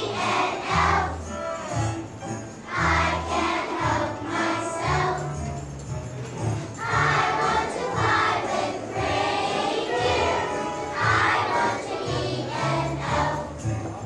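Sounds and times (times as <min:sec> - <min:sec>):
children singing: 0:00.0 - 0:01.8, 0:02.6 - 0:05.4, 0:06.8 - 0:13.9
children singing a christmas song: 0:00.0 - 0:14.0.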